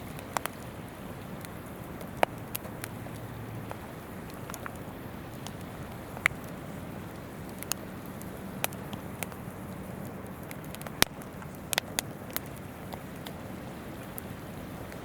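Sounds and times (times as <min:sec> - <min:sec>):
campfire crackling and popping: 0:00.0 - 0:15.0
flowing river rushing: 0:00.0 - 0:15.0.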